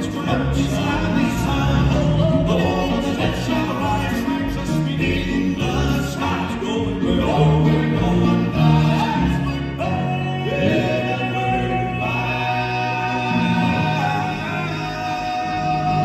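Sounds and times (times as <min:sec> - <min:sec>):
male vocal group singing harmony: 0:00.0 - 0:16.0
musical backing: 0:00.0 - 0:16.0.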